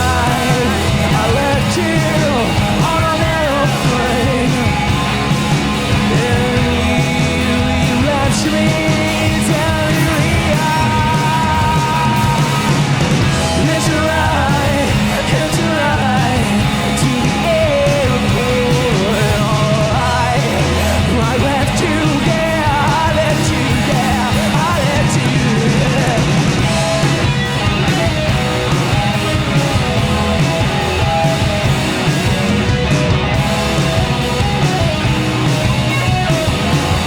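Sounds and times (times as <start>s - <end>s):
rock band playing live: 0.0s - 37.0s.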